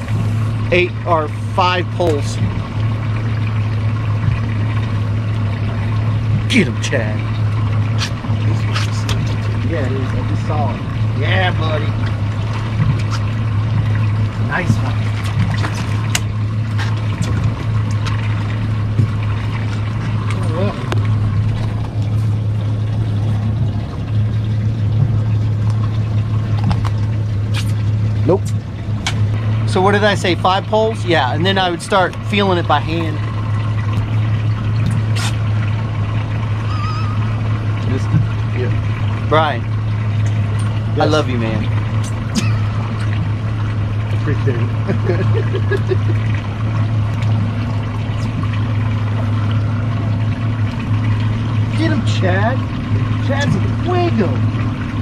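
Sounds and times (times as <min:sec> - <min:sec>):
boat engine idling: 0:00.0 - 0:55.0
outboard motor humming: 0:00.0 - 0:55.0.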